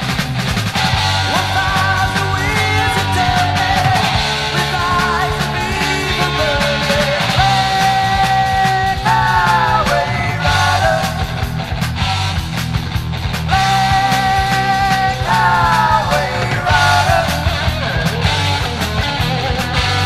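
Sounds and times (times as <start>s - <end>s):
bending lead guitar notes: 0.0s - 20.0s
heavy metal band playing: 0.0s - 20.0s.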